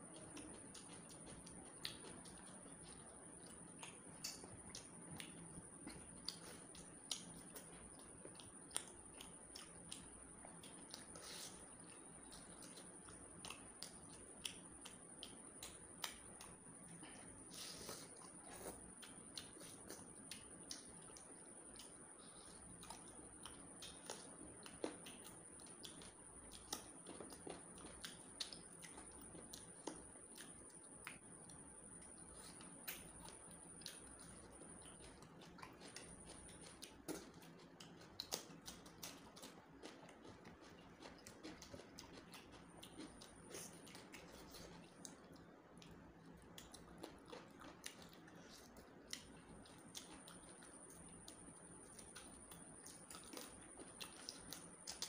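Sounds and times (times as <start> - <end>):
faint high-pitched whine: 0.0 - 55.0
wet chewing smacks: 0.1 - 55.0.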